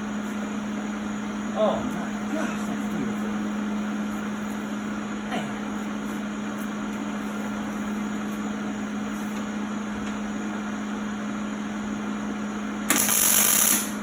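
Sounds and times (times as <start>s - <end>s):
fan hiss: 0.0s - 14.0s
steady mechanical hum: 0.0s - 14.0s.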